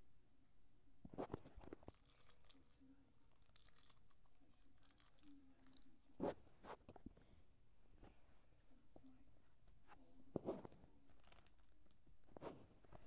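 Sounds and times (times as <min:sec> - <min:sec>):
scratching and rustling handling noise: 0:01.0 - 0:13.0.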